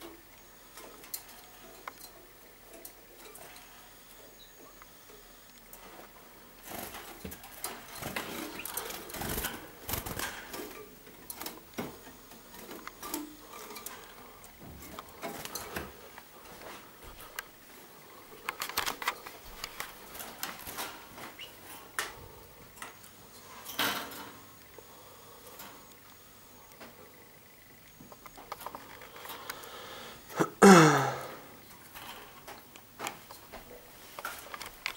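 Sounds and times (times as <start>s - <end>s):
canaries clicking and tapping: 0.0s - 30.3s, 31.6s - 34.9s.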